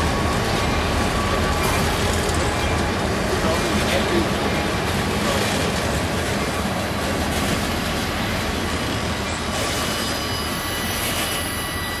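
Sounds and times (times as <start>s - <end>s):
freight train rumbling on rails: 0.0s - 12.0s
high ringing tones from rails: 0.0s - 12.0s.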